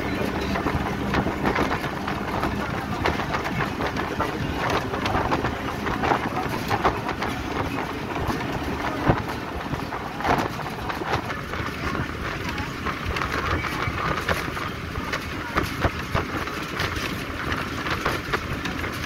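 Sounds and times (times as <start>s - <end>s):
vehicle body rattles and knocks: 0.0s - 19.0s
vehicle engine and tyre noise: 0.0s - 19.0s
wind at open window: 0.0s - 19.0s.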